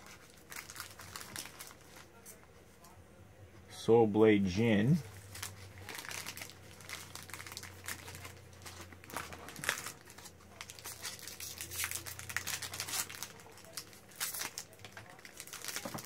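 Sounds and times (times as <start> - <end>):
foil wrapper crinkling and tearing: 0.0 - 2.1, 5.1 - 16.0.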